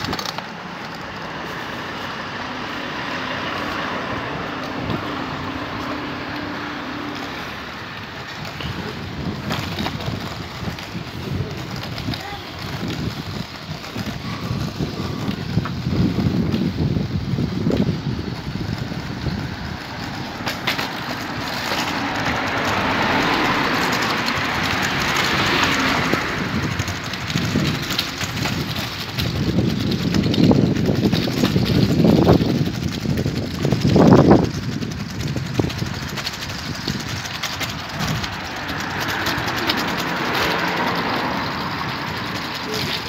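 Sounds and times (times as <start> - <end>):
vehicle passing by: 0.0 - 30.2, 33.8 - 43.0.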